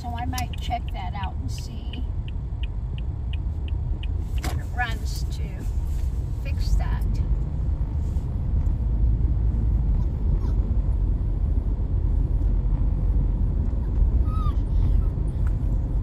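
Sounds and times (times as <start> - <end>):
car cabin road and engine rumble: 0.0 - 16.0.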